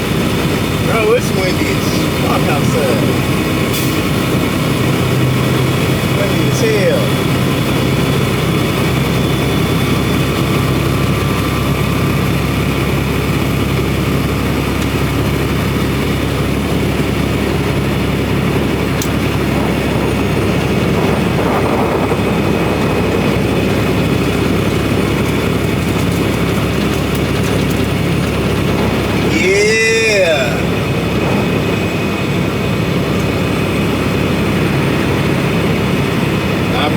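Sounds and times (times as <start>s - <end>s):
diesel engine low drone: 0.0s - 36.9s
road and wind noise: 0.0s - 36.9s.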